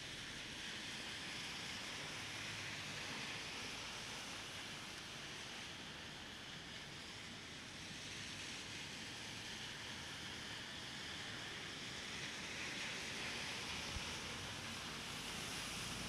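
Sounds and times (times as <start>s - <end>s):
rain falling on street: 0.0s - 16.0s.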